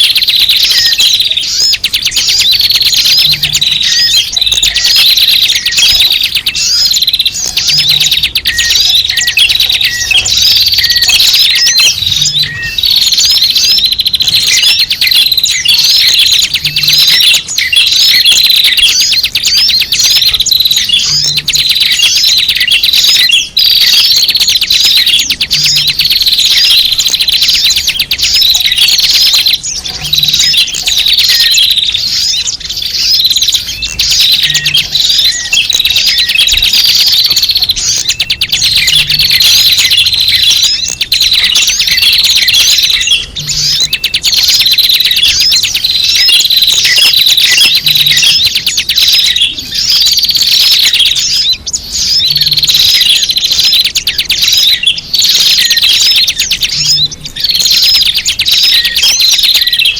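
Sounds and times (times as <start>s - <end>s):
chorus of small birds chirping: 0.0s - 59.9s.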